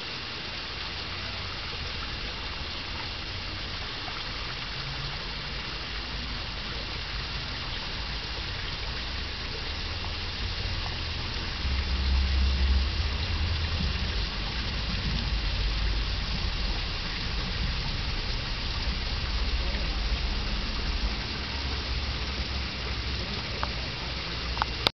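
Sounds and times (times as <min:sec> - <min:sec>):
water rushing: 0:00.0 - 0:24.9
wind rumble on microphone: 0:01.6 - 0:24.9.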